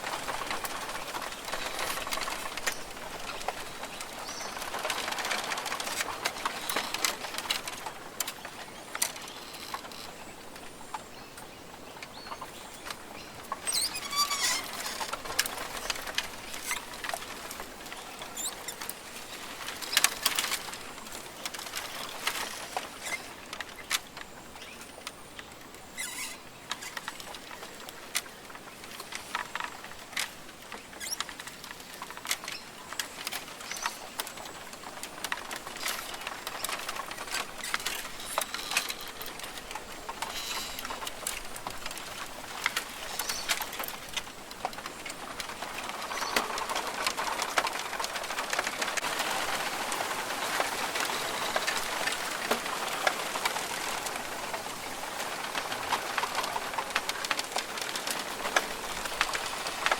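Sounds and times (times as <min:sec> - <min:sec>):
patter of small clicks: 0:00.0 - 0:49.2.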